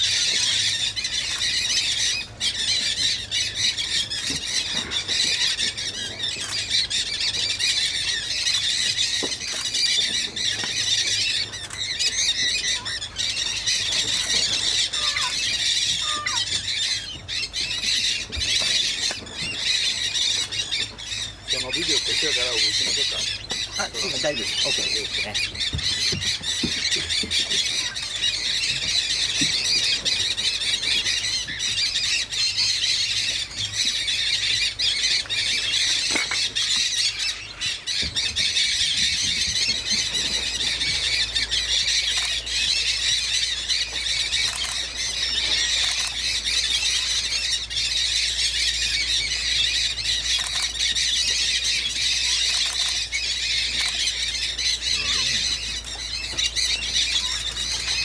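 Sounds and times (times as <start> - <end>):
flock of parrots calling: 0.0 - 58.0.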